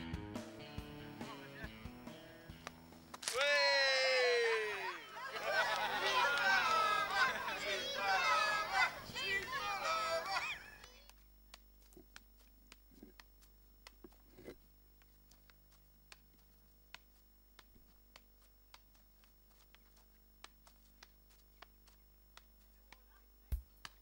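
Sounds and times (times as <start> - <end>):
steady low hum: 4.6 - 24.0.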